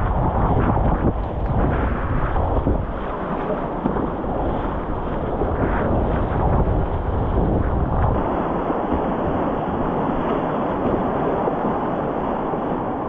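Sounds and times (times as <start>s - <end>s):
rushing river whitewater: 0.0s - 13.0s
wind buffeting microphone: 0.0s - 13.0s.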